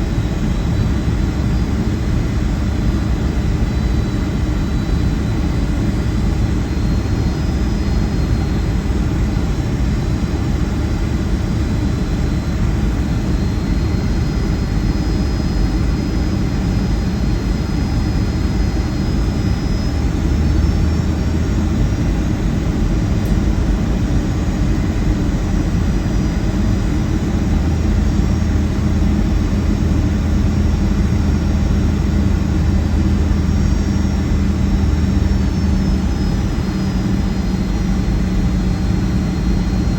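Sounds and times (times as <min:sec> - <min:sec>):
airliner cabin roar: 0:00.0 - 0:39.9
high jet engine whine: 0:00.0 - 0:39.9.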